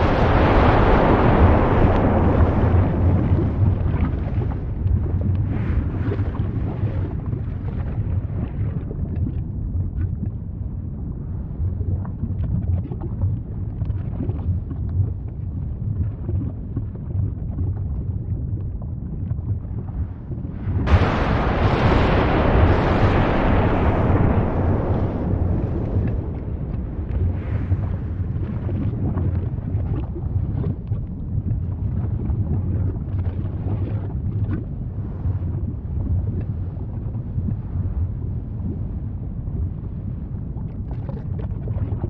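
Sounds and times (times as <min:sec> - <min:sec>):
volcano rumbling: 0:00.0 - 0:42.0.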